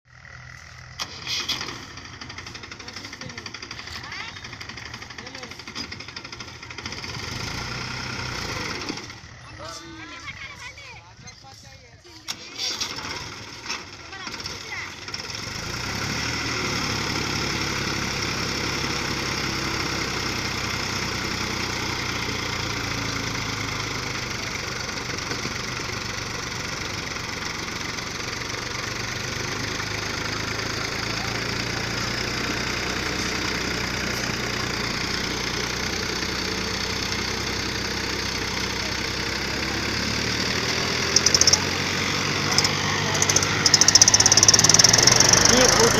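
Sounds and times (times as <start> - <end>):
tractor engine running: 0.1 - 45.9.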